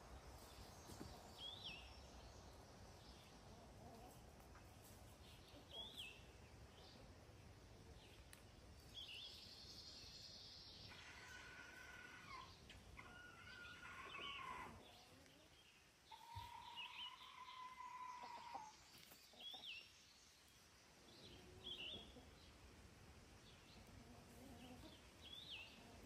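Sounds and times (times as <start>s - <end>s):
faint outdoor background noise: 0.0s - 26.0s
young chickens calling: 3.2s - 7.2s, 7.8s - 20.0s, 21.0s - 26.0s.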